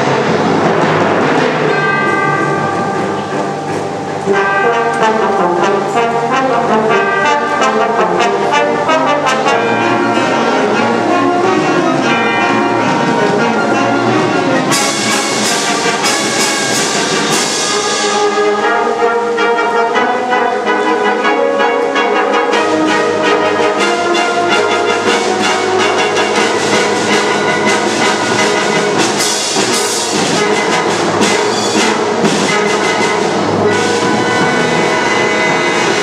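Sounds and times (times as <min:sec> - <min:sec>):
wind band playing: 0:00.0 - 0:36.0
bright percussion strokes: 0:00.2 - 0:36.0.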